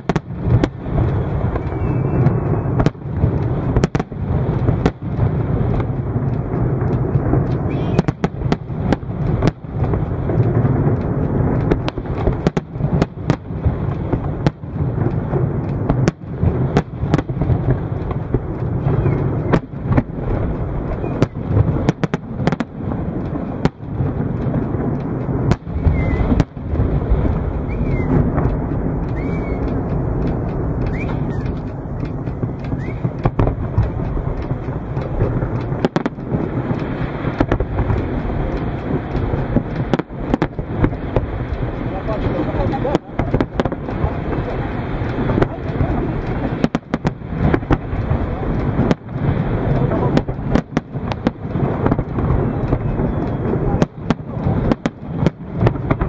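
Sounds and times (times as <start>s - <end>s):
fireworks bursting: 0.0s - 56.0s
low din of fireworks show: 0.0s - 56.0s.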